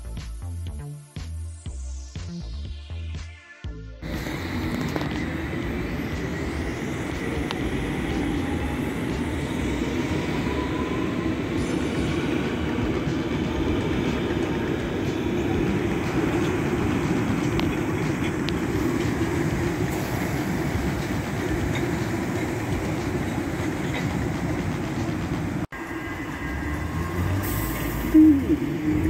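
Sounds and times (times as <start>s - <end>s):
underground train rumble: 4.0s - 29.0s.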